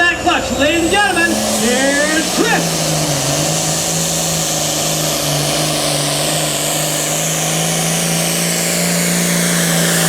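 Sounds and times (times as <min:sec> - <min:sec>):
diesel engine running hard: 0:00.0 - 0:10.0
turbo whine: 0:00.0 - 0:10.0.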